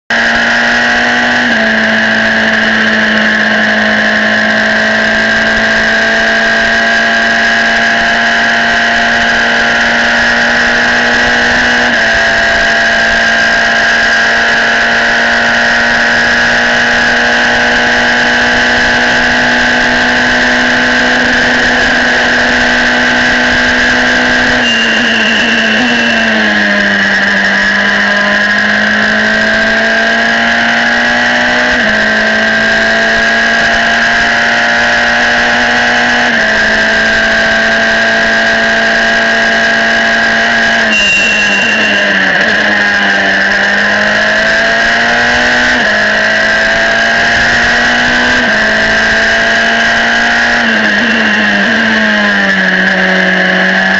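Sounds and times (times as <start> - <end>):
racing car engine at high revs: 0.0 - 53.9.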